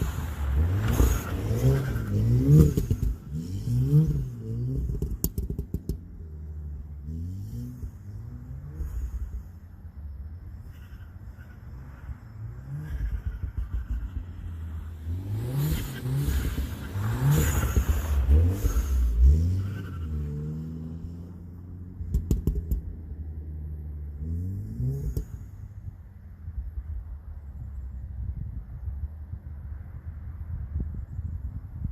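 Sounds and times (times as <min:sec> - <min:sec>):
car engine accelerating: 0:00.0 - 0:28.1.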